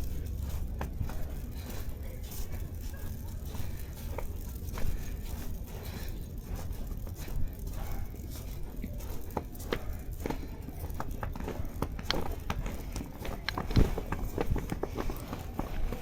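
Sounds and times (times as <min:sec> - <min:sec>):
footsteps crunching in snow: 0:00.0 - 0:16.0.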